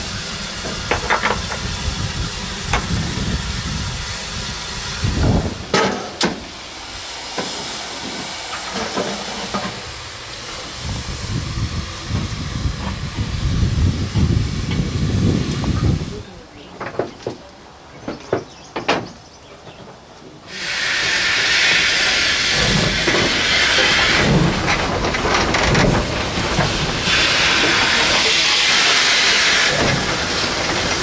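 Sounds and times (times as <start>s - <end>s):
steam locomotive hissing: 0.0s - 16.5s, 20.4s - 31.0s.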